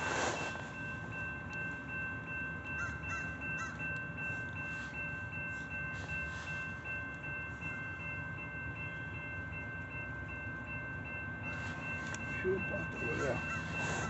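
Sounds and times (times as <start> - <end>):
train locomotive rumble: 0.0 - 14.0.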